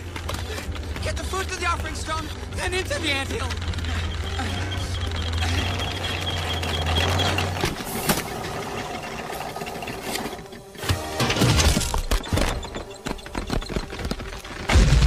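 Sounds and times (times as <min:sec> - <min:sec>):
film score: 0:00.0 - 0:15.0.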